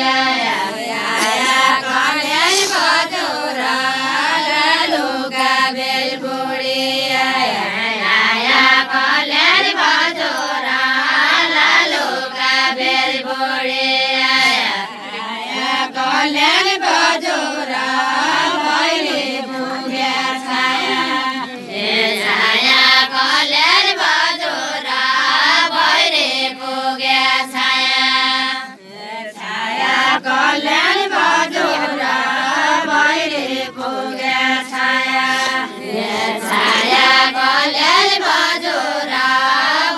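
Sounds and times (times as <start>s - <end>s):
women singing in unison: 0.0s - 39.9s.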